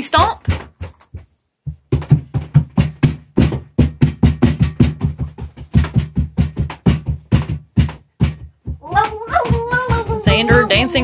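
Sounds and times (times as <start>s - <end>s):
electronic drum beat: 1.7s - 11.0s.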